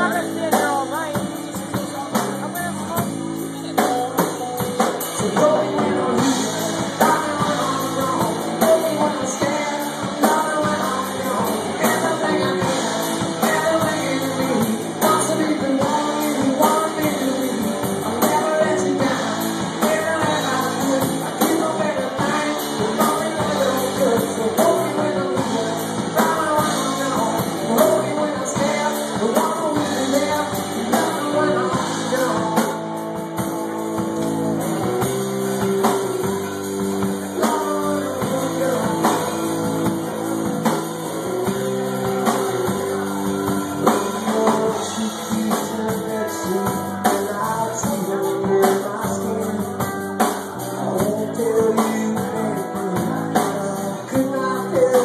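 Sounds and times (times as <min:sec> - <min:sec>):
drum kit: 0:00.0 - 0:55.0
electric guitars: 0:00.0 - 0:55.0
man singing: 0:00.0 - 0:55.0.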